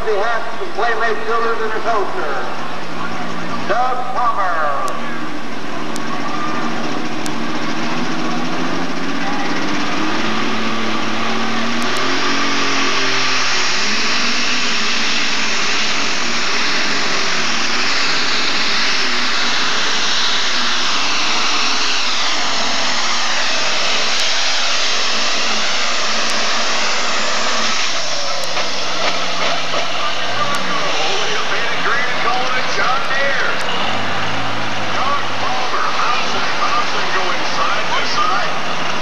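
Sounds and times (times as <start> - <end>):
tractor engine droning at full power: 0.0 - 39.0.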